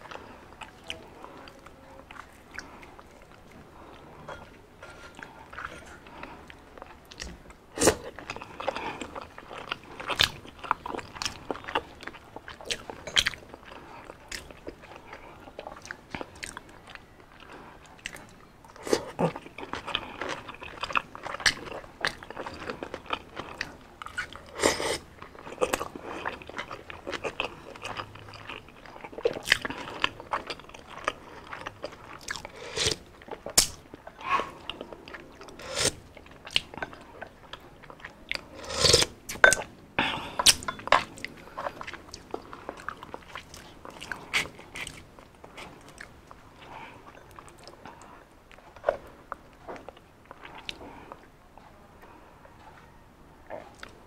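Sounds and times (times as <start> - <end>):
biting and chewing fried food: 0.0 - 51.3.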